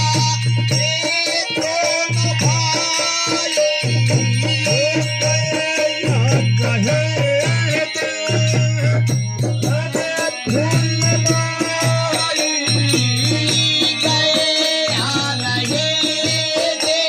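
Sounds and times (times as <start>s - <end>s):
harmonium playing: 0.0s - 17.0s
person singing: 0.0s - 17.0s
rattling hand percussion: 0.0s - 17.0s.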